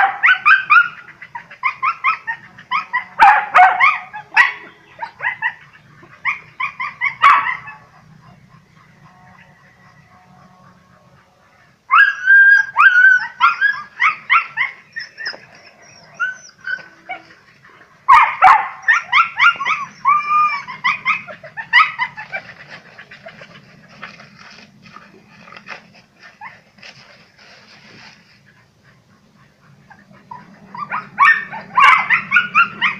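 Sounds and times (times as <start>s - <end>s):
dogs yelping high-pitched: 0.0s - 27.1s, 28.0s - 32.9s.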